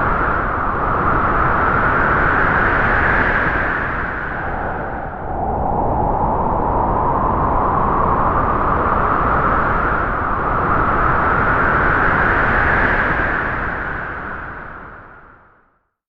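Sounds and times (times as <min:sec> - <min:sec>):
strong wind howling through trees: 0:00.0 - 0:15.5.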